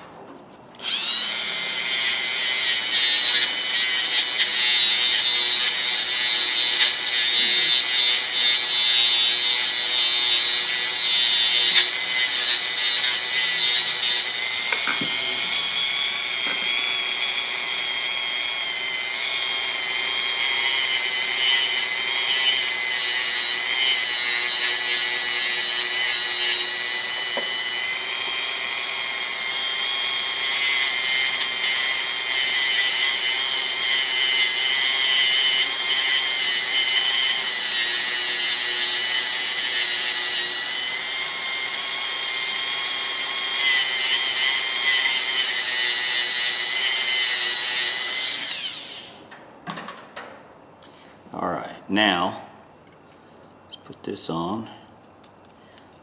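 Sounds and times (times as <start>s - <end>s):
rotary tool whining: 0.8s - 49.3s.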